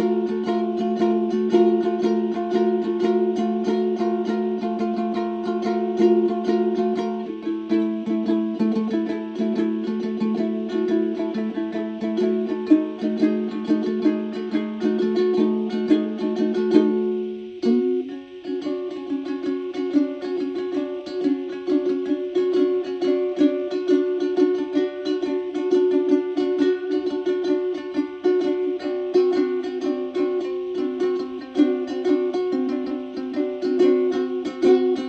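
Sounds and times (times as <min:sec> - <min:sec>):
plucked string instrument music: 0:00.0 - 0:35.0.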